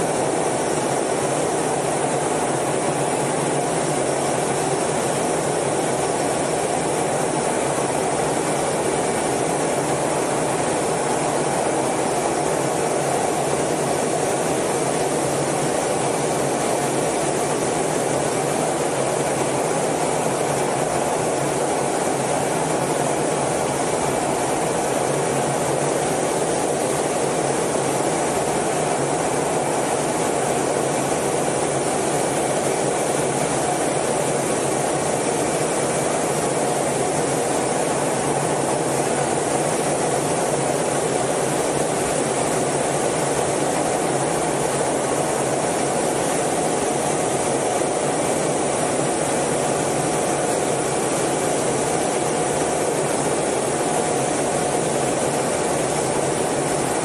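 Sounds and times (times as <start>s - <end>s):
jet engine roar in cockpit: 0.0s - 57.0s.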